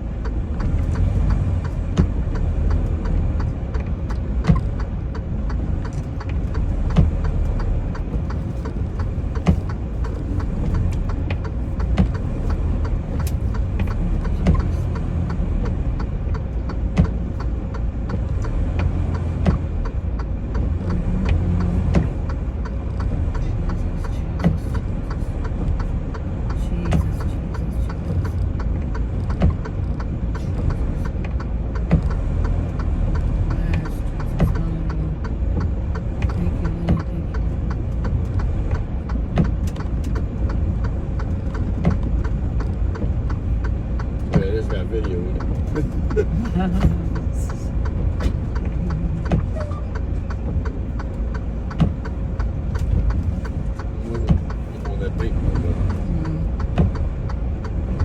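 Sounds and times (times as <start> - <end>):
truck diesel engine running: 0.0 - 58.0
light clicks and knocks: 0.1 - 58.0.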